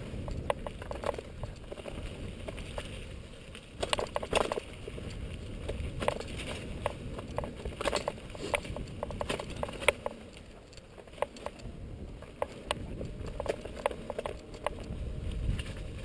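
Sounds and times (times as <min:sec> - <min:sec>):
bike clicks and rattles: 0:00.0 - 0:16.0
bike tyres rumbling on dirt: 0:00.0 - 0:16.0.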